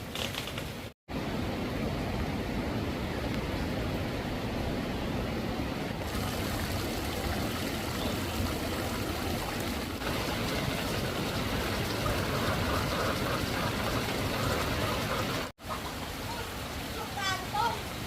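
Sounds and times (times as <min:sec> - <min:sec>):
floodwater rushing: 0:01.6 - 0:18.0.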